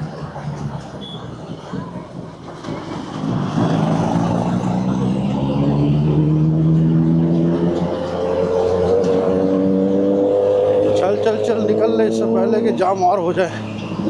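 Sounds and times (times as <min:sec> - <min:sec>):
motorcycle engine accelerating: 0:00.0 - 0:13.0
low traffic rumble: 0:00.0 - 0:14.0.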